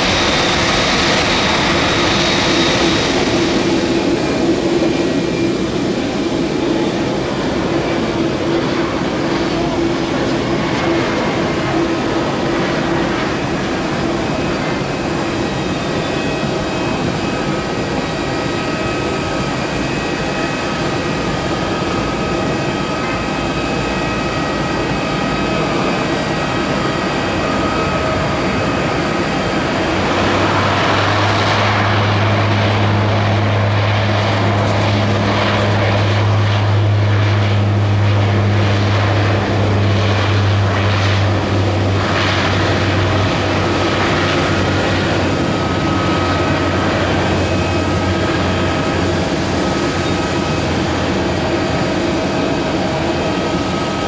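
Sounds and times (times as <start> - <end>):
jet engines rushing and whining: 0.0 - 54.0
turboprop propellers droning: 0.0 - 54.0.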